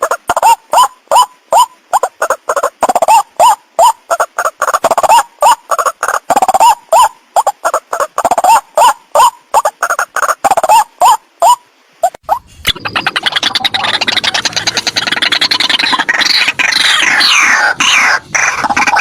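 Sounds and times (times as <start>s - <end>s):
waterhen croaking calls: 0.0s - 19.0s.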